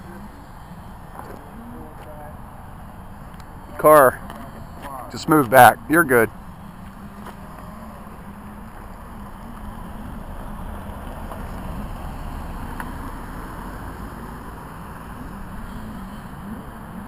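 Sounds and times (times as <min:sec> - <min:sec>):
model airplane propeller droning: 0:00.0 - 0:17.0.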